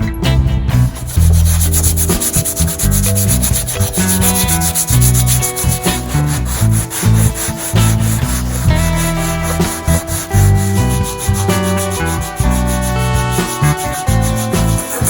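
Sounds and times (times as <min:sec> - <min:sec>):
sandpaper rubbing on wood: 0:00.8 - 0:15.0.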